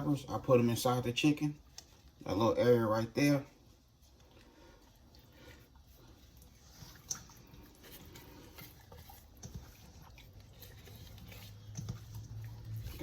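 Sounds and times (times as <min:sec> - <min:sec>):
wet handling of raw chicken: 0:00.0 - 0:13.0.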